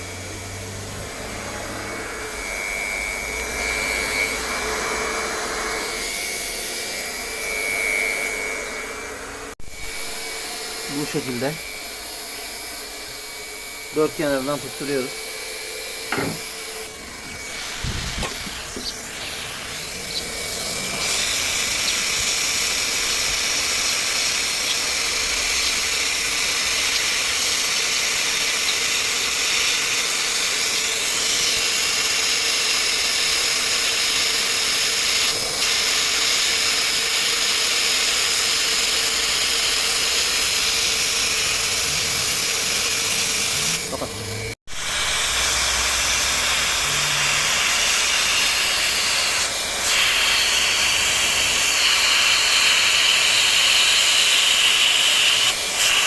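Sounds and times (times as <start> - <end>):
hot-air gun hissing: 0.0 - 56.0.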